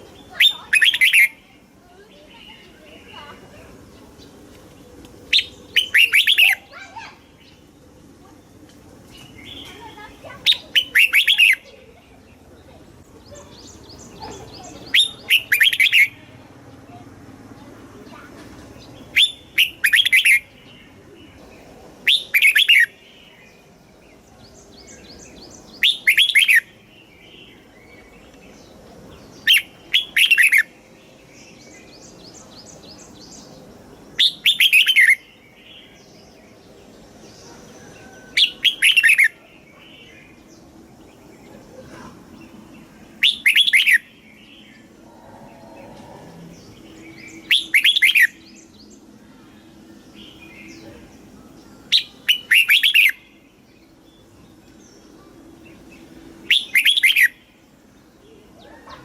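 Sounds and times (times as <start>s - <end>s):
bird singing: 0.0s - 59.0s
faint bird twittering: 0.0s - 59.0s.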